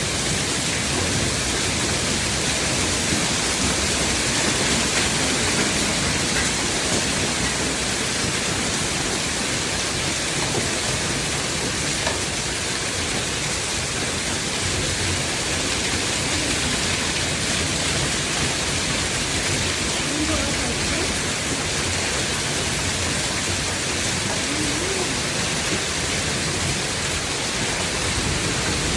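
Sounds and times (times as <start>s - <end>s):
hail and rain pelting down: 0.0s - 28.9s.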